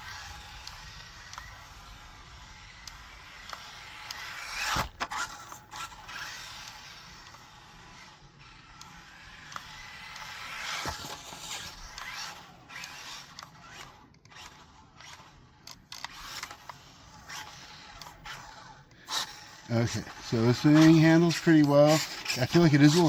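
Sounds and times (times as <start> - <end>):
rc truck motor whining: 0.0 - 23.0
scrapes and clicks: 2.8 - 23.0.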